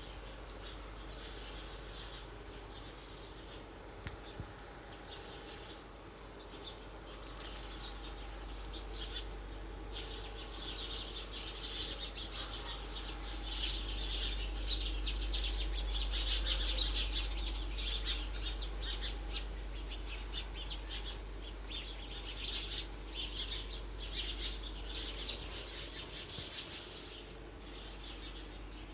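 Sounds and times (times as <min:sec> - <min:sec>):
birds chirping: 0:00.0 - 0:28.9
low steady hum: 0:00.0 - 0:28.9.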